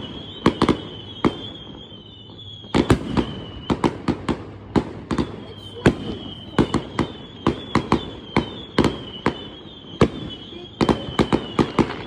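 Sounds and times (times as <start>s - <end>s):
high whistling tone: 0.0s - 4.1s, 5.1s - 12.0s
fireworks bangs: 0.0s - 12.0s.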